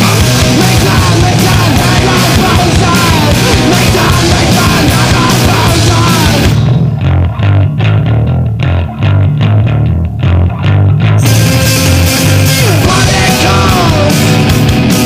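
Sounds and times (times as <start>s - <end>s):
distorted guitars: 0.0s - 15.0s
drums: 0.0s - 15.0s.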